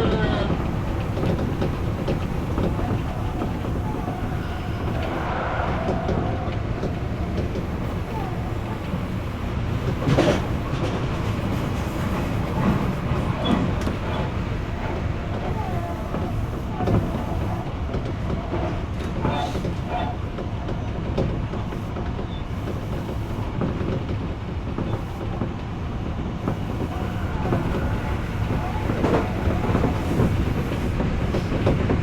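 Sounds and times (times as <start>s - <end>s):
electric train rumbling on rails: 0.0s - 32.0s.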